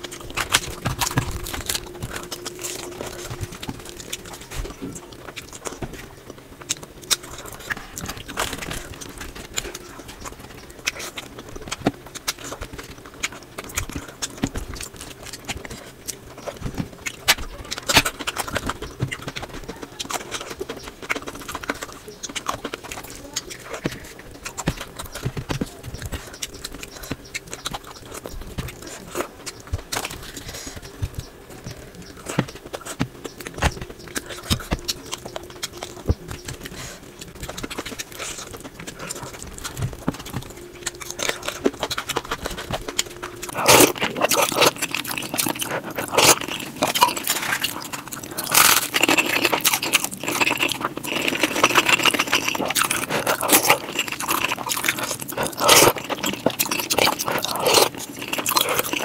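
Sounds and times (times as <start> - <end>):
chewing with crunching bites: 0.0 - 59.0.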